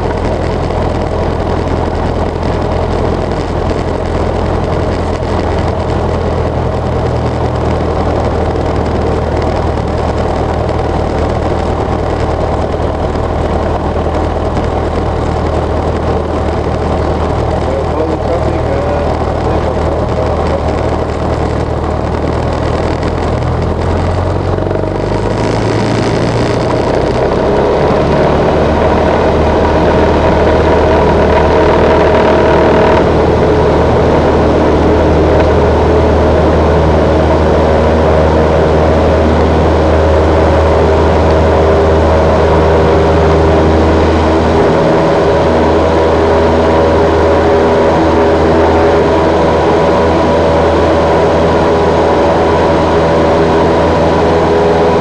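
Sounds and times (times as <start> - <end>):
light plane engine and propeller: 0.0 - 55.0.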